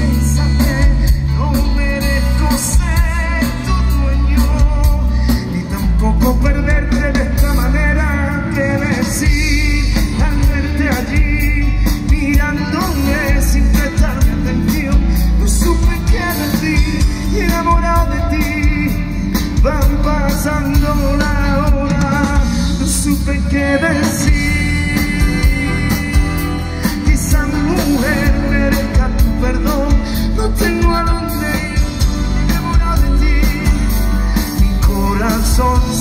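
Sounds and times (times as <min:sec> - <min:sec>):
acoustic guitar: 0:00.0 - 0:36.0
drum kit: 0:00.0 - 0:36.0
electric bass: 0:00.0 - 0:36.0
man singing with vibrato: 0:00.0 - 0:36.0.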